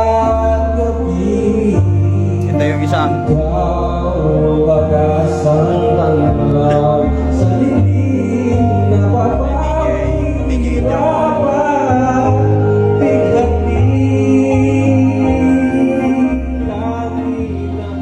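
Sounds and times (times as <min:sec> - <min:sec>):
song with singing over bass: 0:00.0 - 0:18.0.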